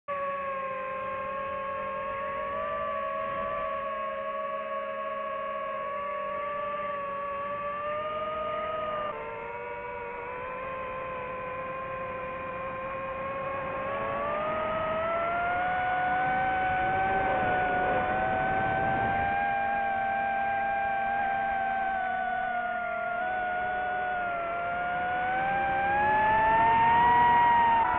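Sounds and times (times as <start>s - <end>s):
drone propellers whining: 0.1s - 27.9s.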